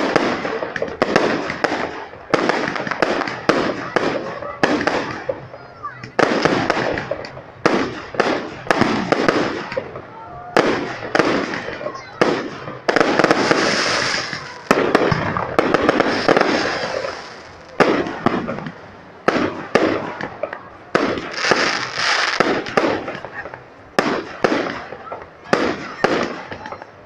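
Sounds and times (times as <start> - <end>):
fireworks hiss: 0.0 - 26.7
fireworks bangs: 0.0 - 27.0.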